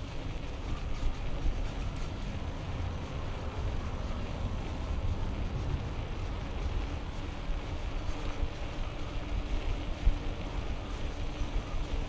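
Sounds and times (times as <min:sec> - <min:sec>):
street ambience rumble: 0:00.0 - 0:12.0.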